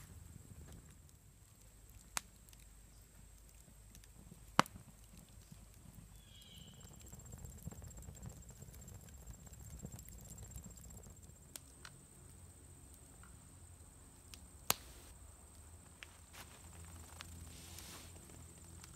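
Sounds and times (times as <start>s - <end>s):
campfire crackling: 0.0s - 18.9s.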